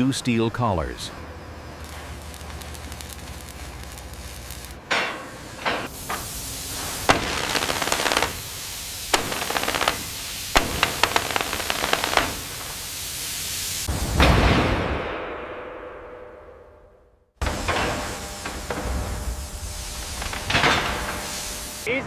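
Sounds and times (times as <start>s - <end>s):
steady hiss: 0.0s - 14.4s, 17.4s - 22.0s
low hum: 0.0s - 21.9s.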